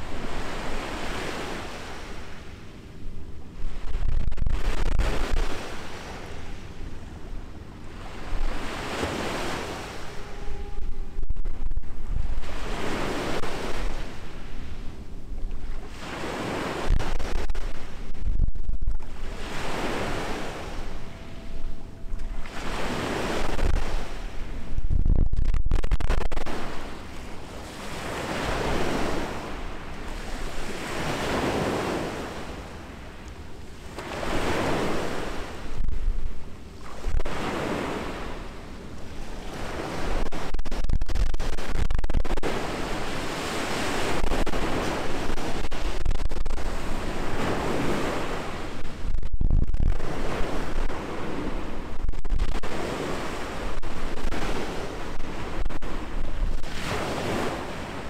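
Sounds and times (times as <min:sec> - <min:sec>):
small waves washing onto shore: 0:00.0 - 0:58.0
wind rumbling on microphone: 0:00.0 - 0:58.0.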